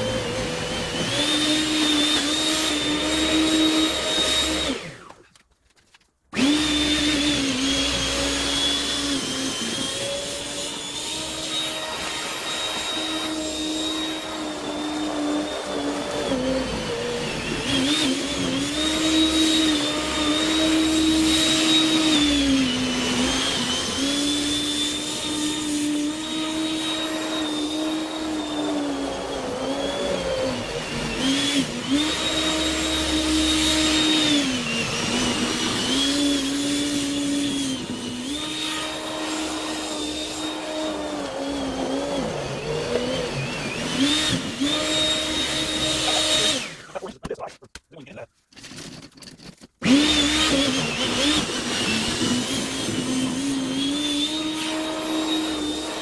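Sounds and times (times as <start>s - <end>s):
electric snowblower motor whining: 0.0s - 5.2s, 6.3s - 47.0s, 49.8s - 56.0s.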